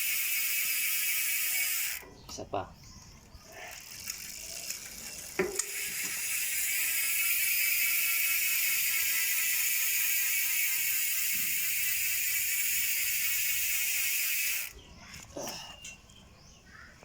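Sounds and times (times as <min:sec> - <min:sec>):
bike hub freewheeling buzz: 0:00.0 - 0:02.2, 0:02.8 - 0:16.8.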